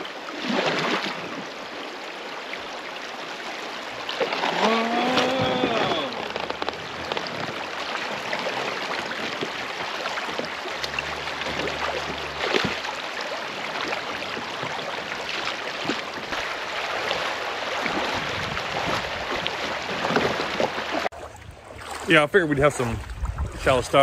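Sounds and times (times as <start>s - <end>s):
river water rushing and splashing: 0.0s - 22.2s.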